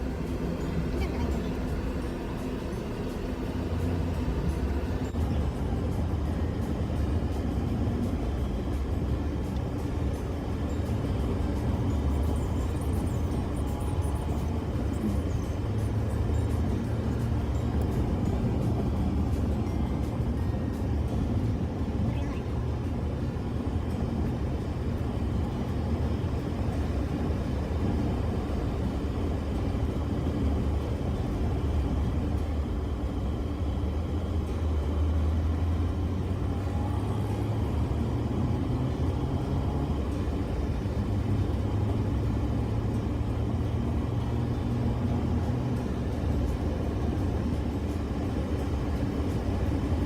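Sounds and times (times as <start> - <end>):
car driving: 0.0 - 50.0.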